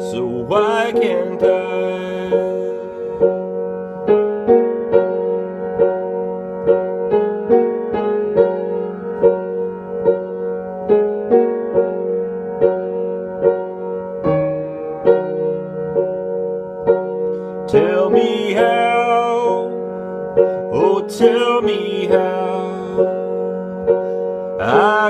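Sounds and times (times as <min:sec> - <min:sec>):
keyboard playing notes: 0:00.0 - 0:25.0.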